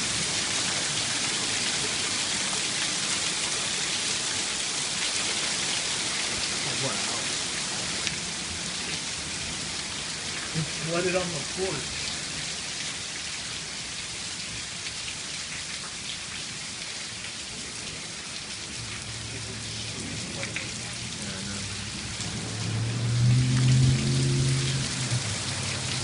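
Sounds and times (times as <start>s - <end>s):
hail and heavy rain: 0.0s - 26.0s.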